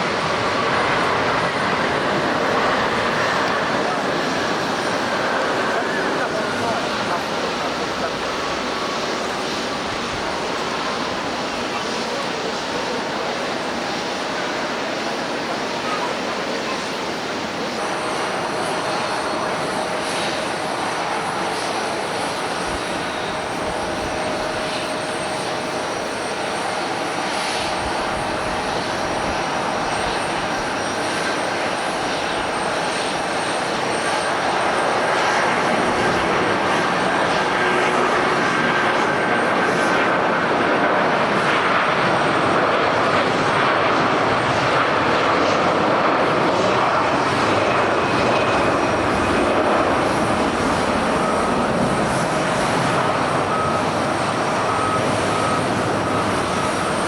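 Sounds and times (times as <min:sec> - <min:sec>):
jet airliner engine rushing: 0:00.0 - 0:57.0.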